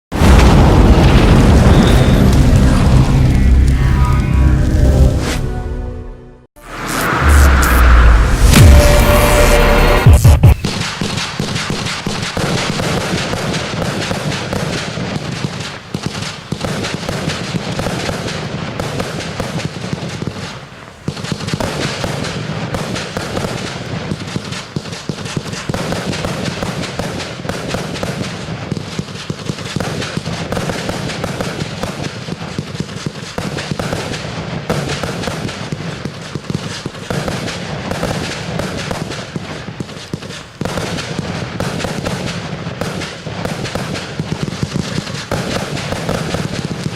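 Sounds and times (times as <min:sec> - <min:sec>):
fireworks bangs and crackles: 0:00.1 - 0:03.8, 0:06.6 - 0:46.9.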